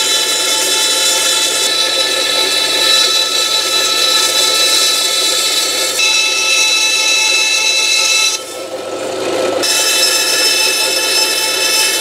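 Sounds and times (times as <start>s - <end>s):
bandsaw cutting wood: 0.0s - 12.0s.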